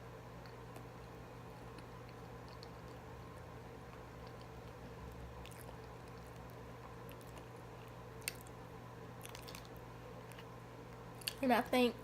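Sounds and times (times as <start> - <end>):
steady low hum: 0.0 - 12.0
person chewing food: 0.4 - 11.4.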